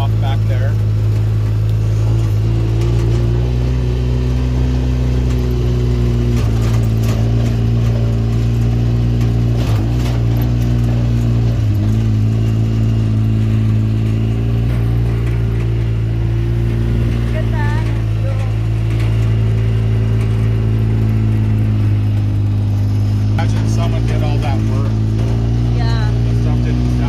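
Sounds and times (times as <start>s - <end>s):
motor engine running: 0.0s - 27.0s.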